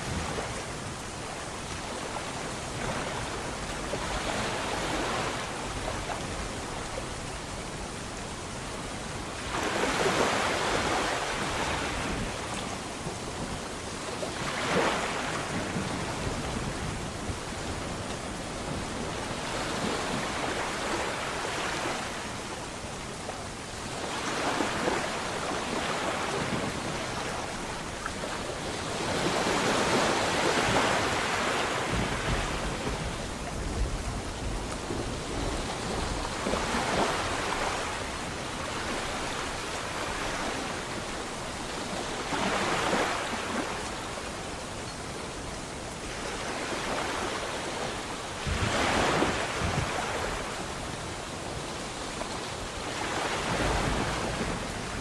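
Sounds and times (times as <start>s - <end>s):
sea waves breaking ashore: 0.0s - 55.0s.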